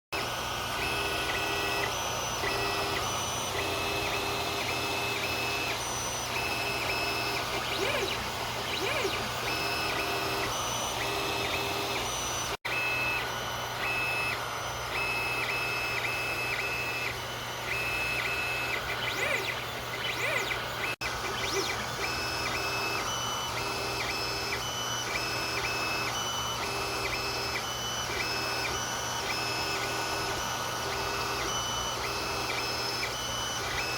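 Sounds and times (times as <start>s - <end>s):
stepper motors whining: 0.2s - 33.9s.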